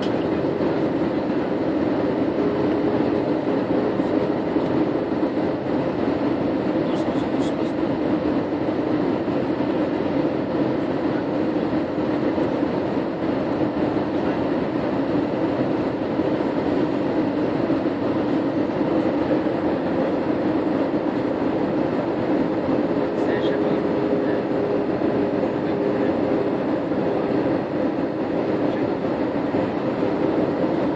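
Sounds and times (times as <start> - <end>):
airliner cabin rumble: 0.0 - 30.9
constant low hum: 0.0 - 30.9.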